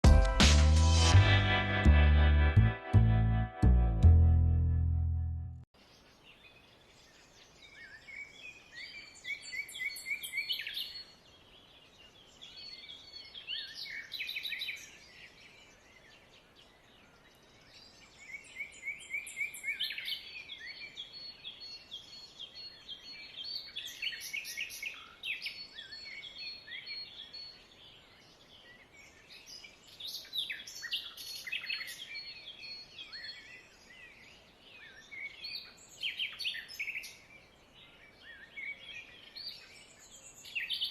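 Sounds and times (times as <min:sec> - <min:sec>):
small birds chirping: 0:05.8 - 0:40.9.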